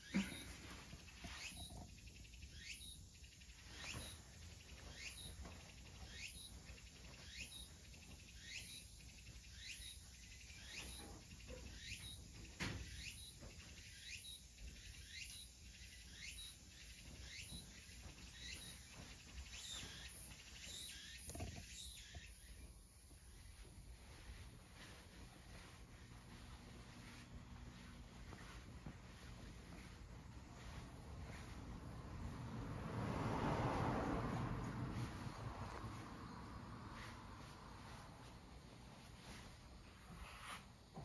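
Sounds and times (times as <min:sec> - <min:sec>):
faint rising chirps: 0:00.0 - 0:40.6.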